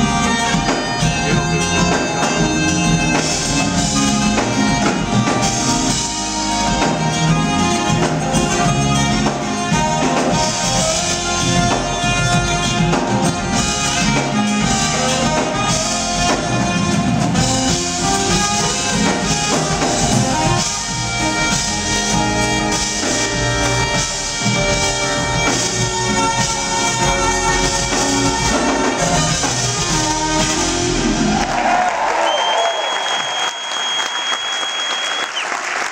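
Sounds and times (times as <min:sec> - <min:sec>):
electric bass: 0:00.0 - 0:31.8
electric guitar: 0:00.0 - 0:31.8
saxophone: 0:00.0 - 0:31.8
drums: 0:00.0 - 0:35.9.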